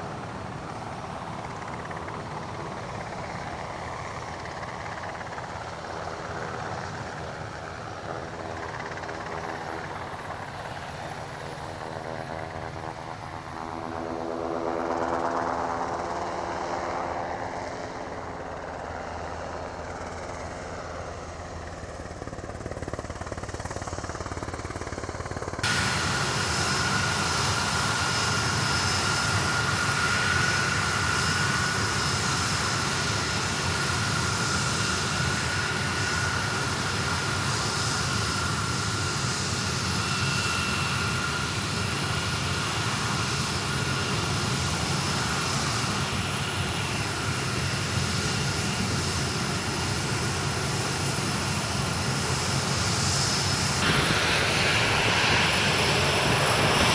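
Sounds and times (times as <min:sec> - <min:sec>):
distant jet engines taxiing: 0:00.0 - 0:56.9
jet engine high whine: 0:00.0 - 0:56.9.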